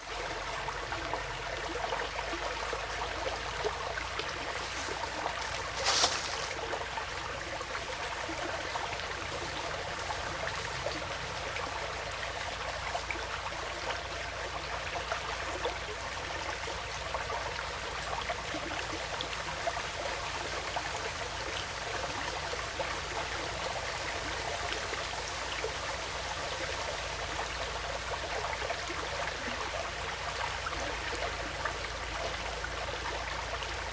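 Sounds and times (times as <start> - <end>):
stream flowing and trickling: 0.0 - 33.9.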